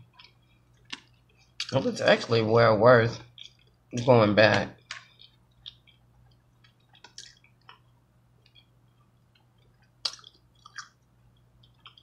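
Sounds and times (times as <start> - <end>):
chewing with mouth clicks: 0.0 - 1.8, 3.1 - 4.1, 4.8 - 12.0.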